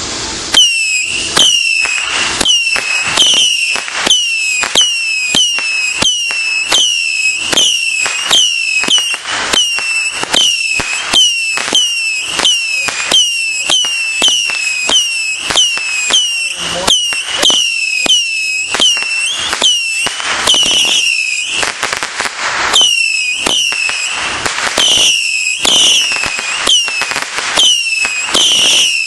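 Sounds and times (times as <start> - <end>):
firework pops and whistles: 0.0 - 29.0.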